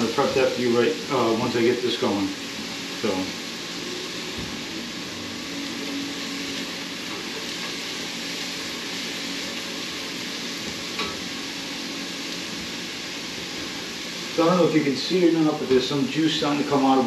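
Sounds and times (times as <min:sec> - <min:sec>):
onions sizzling in a pot: 0:00.0 - 0:17.0.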